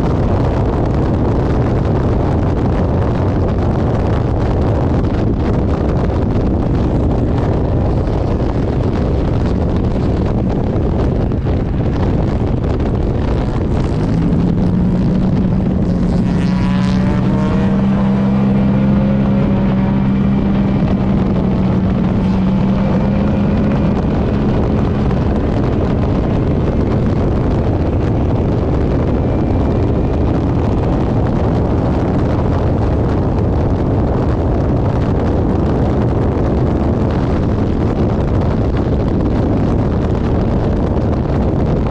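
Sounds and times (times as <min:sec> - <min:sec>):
wind buffeting microphone: 0:00.0 - 0:41.9
race car engine running: 0:00.1 - 0:41.9.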